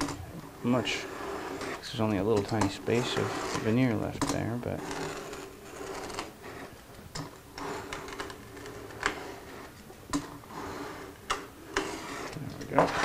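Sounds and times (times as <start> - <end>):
blade scraping along wood veneer: 0.0 - 13.0.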